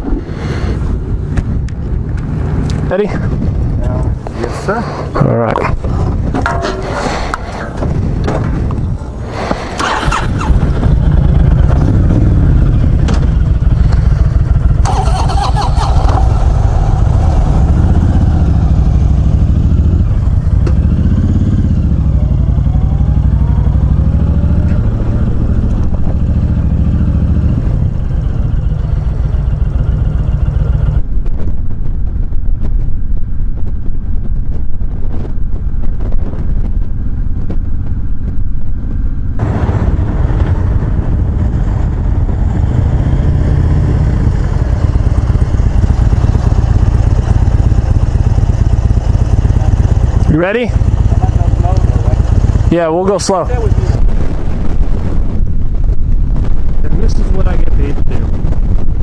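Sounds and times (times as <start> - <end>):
wind noise on microphone: 0.0 - 59.0
motorcycle engine accelerating: 0.9 - 59.0.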